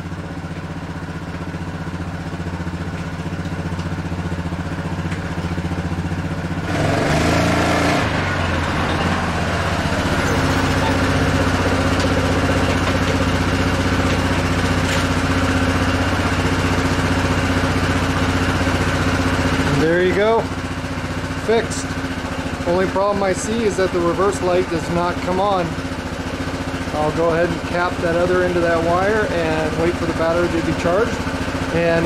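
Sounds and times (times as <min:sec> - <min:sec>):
quad bike engine revving: 0:01.1 - 0:32.0.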